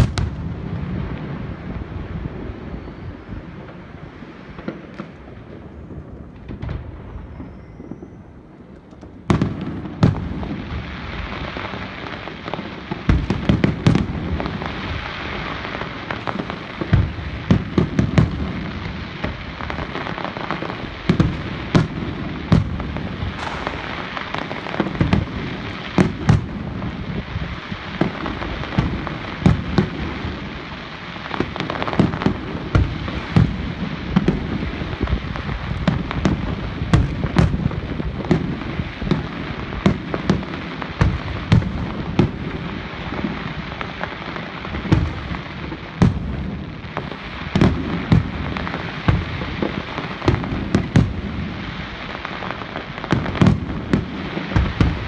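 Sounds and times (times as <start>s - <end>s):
fireworks crackling and banging: 0.0s - 55.0s
low wind: 0.0s - 55.0s.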